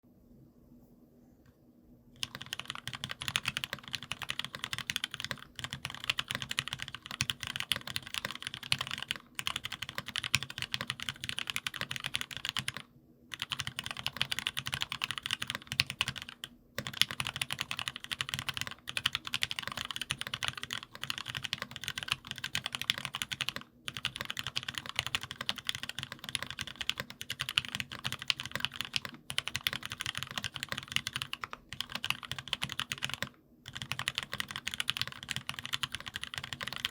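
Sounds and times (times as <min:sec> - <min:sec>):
fast keyboard typing clacks: 0:02.2 - 0:36.9.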